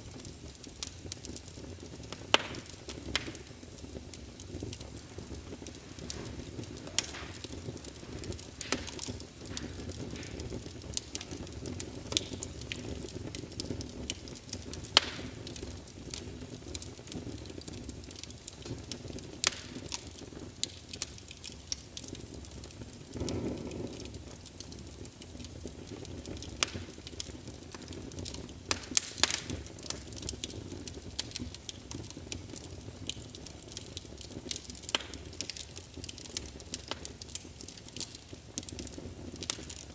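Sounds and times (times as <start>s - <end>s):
flames rumbling: 0.0s - 39.9s
wood fire crackling and popping: 0.0s - 39.9s.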